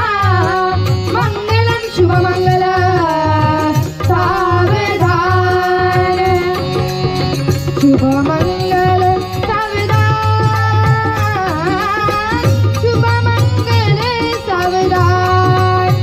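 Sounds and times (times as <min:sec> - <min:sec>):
child singing: 0:00.0 - 0:16.0.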